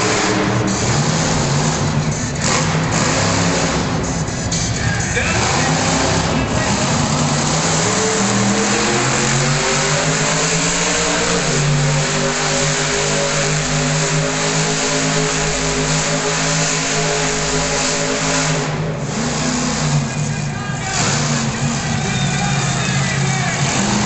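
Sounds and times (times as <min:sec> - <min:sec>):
truck engine droning: 0:00.0 - 0:24.0.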